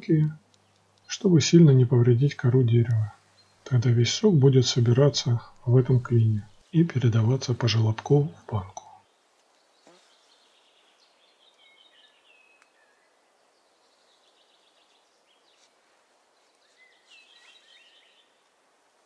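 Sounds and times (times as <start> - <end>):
faint bird song: 0.0 - 19.0.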